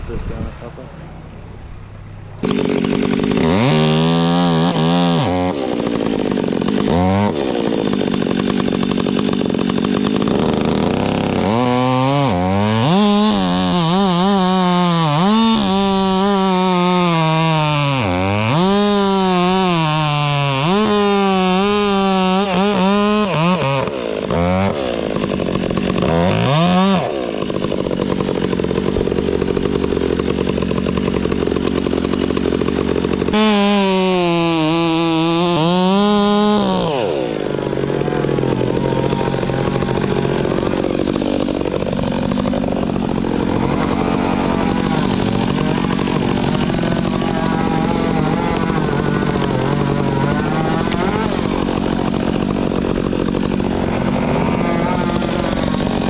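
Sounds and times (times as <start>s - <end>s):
chainsaw cutting wood: 1.4s - 56.0s.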